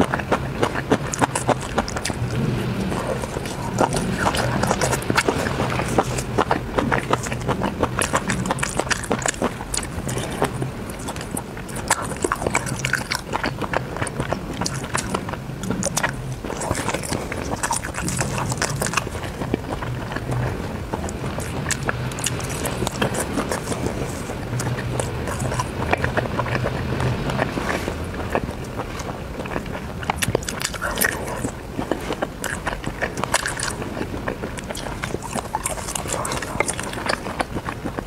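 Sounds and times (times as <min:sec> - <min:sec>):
chewing: 0:00.0 - 0:38.0.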